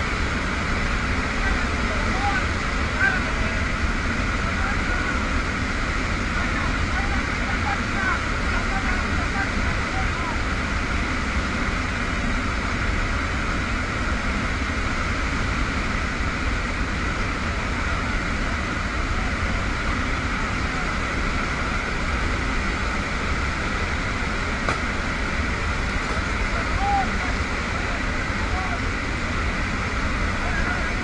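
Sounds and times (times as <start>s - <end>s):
aircraft engine drone: 0.0s - 31.0s
rushing wind: 0.0s - 31.0s.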